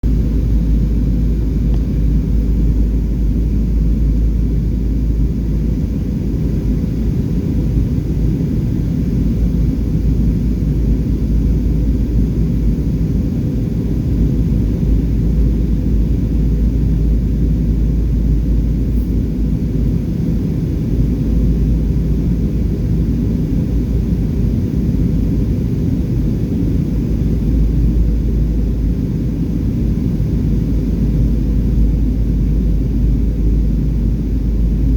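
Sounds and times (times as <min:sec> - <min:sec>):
airliner cabin drone: 0:00.0 - 0:34.9
faint steady hum: 0:00.0 - 0:34.9.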